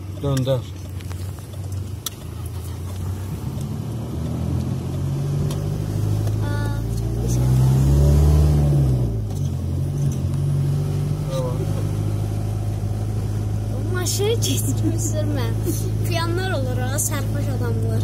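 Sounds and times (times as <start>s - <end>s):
car engine: 0.0s - 18.0s
road noise: 0.0s - 18.0s.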